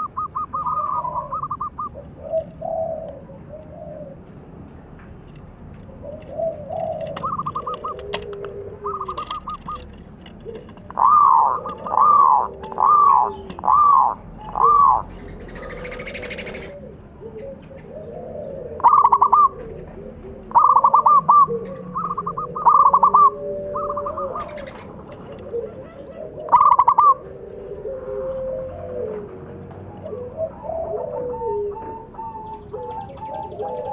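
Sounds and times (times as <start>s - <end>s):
softer lower bird calls: 0.0s - 4.2s, 5.9s - 29.3s
dove trilled cooing: 0.0s - 4.6s, 5.7s - 33.9s.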